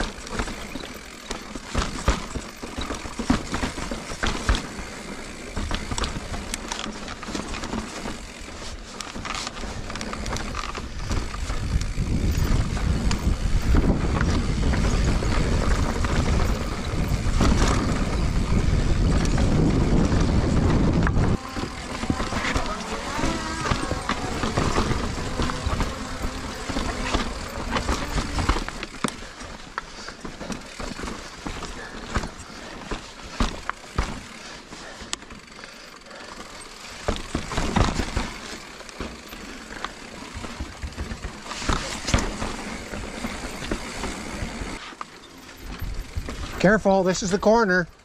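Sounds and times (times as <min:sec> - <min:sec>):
bike chain and frame rattling: 0:00.0 - 0:48.0
bike tyre noise on rock: 0:00.0 - 0:48.0.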